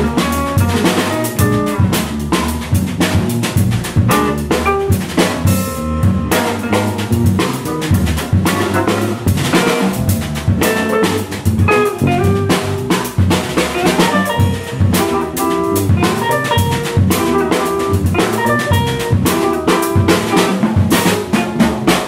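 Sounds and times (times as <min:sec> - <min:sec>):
drum kit snare and rimshot hits: 0:00.0 - 0:22.0
walking bass line: 0:00.0 - 0:22.0.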